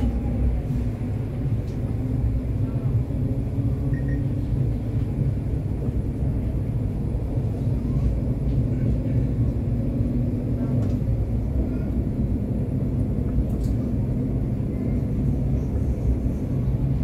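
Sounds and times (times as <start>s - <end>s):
tram rumbling at speed: 0.0s - 17.0s.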